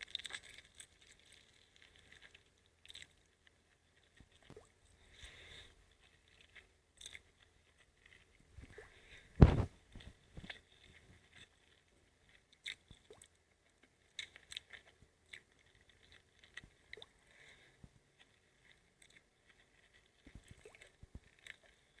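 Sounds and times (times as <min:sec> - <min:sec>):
soft squishy chewing: 0:00.0 - 0:22.0.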